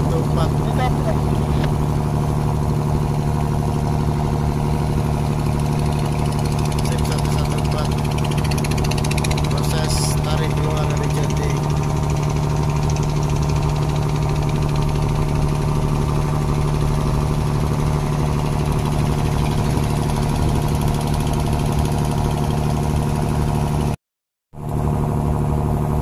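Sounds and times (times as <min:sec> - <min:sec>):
diesel engine droning: 0:00.0 - 0:24.0, 0:24.6 - 0:26.0.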